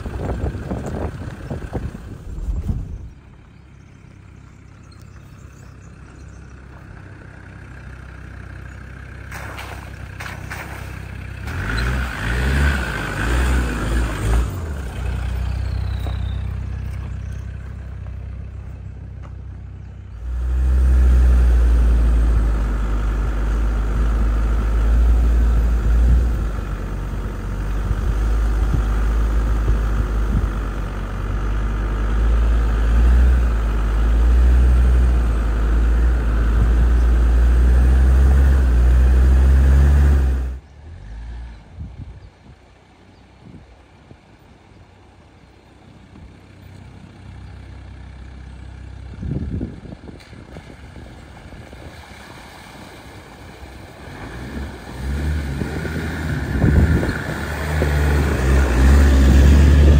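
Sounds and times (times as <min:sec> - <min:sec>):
vehicle engine: 0:00.0 - 0:59.9
vehicle rumbling on dirt track: 0:00.0 - 0:59.9.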